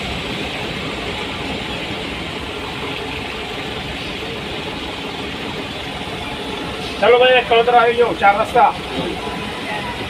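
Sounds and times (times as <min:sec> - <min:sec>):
bus engine: 0:00.0 - 0:10.0
tyres on wet road: 0:00.0 - 0:10.0.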